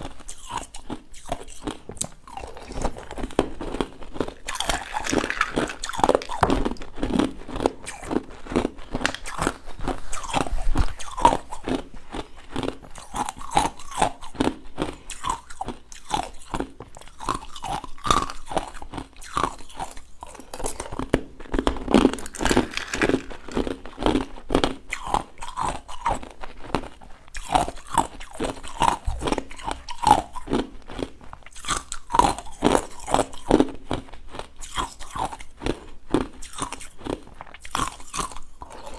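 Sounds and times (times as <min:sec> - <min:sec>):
ice being crunched by chewing: 0:00.0 - 0:38.9.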